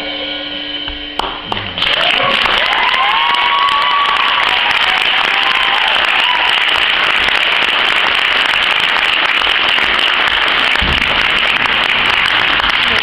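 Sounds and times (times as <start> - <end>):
audience applauding: 1.2 - 13.0.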